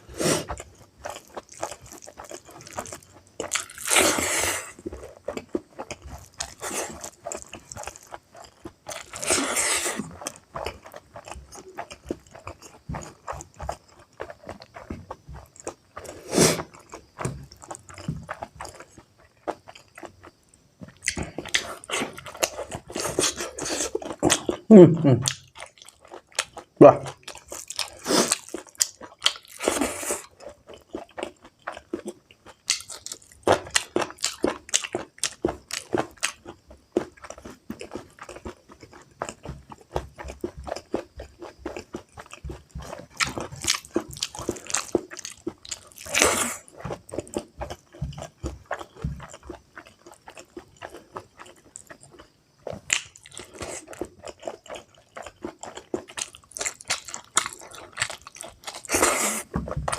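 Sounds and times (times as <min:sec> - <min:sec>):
chewing and biting food: 0:00.0 - 0:59.9.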